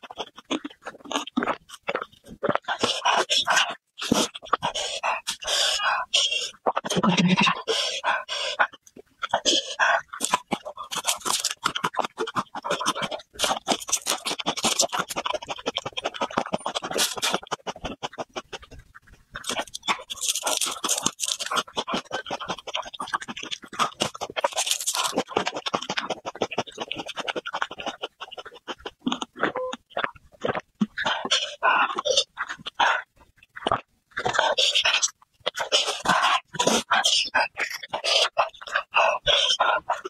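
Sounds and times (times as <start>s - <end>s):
chewing and crunching garlic: 0.0s - 40.0s
hard breaths: 2.4s - 28.0s, 30.9s - 33.4s, 34.2s - 40.0s.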